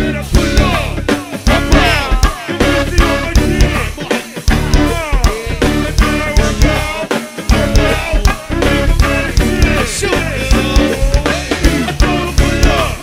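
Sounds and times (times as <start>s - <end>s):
drum-driven band music: 0.0s - 13.0s.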